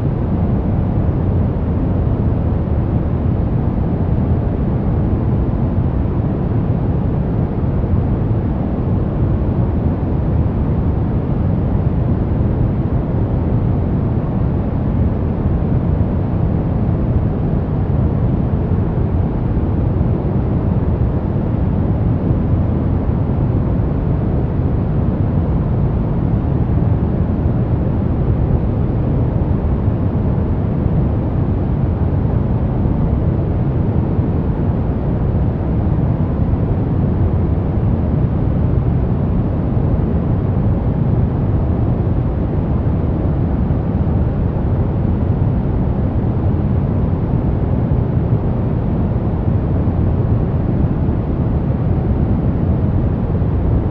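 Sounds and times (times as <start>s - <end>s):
deep white noise: 0.0s - 53.9s.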